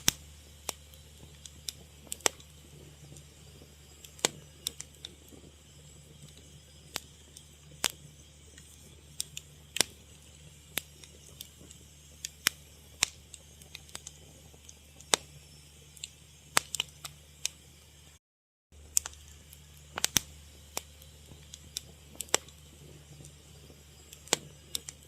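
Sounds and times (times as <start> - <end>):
faint steady hiss: 0.0 - 18.2, 18.8 - 25.0
fire crackling: 0.0 - 25.0.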